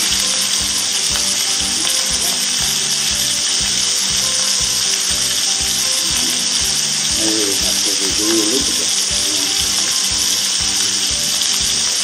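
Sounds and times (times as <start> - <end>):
fat sizzling in a frying pan: 0.0 - 12.0
music with a steady beat: 0.0 - 12.0.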